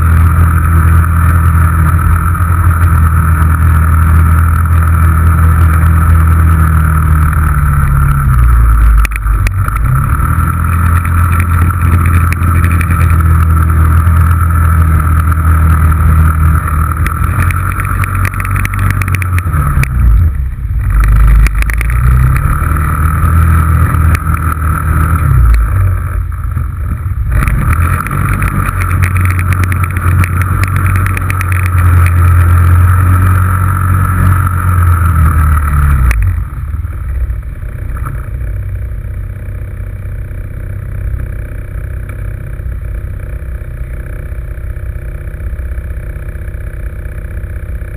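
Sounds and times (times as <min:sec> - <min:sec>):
engine running hard: 0:00.0 - 0:47.9.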